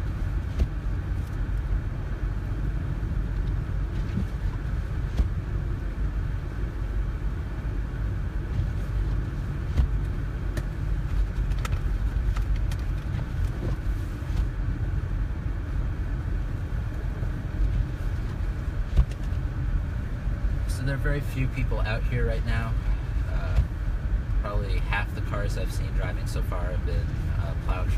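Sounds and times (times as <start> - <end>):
car driving on snow: 0.0 - 27.9.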